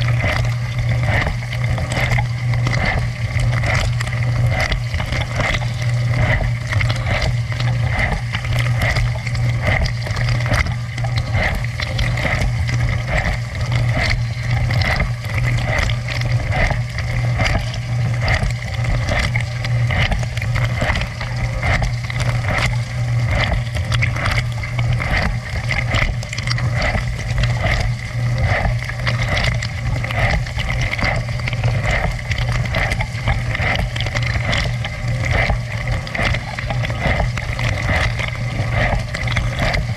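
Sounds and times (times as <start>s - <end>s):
pump motor hum: 0.0s - 39.9s.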